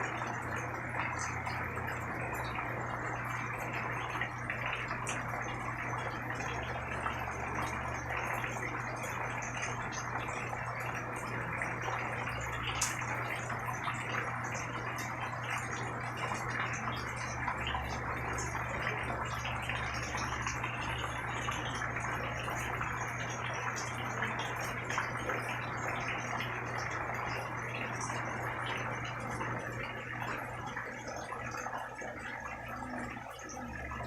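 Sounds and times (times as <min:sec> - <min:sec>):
low steady hum: 0:00.0 - 0:34.0
steady rain falling: 0:00.0 - 0:34.0.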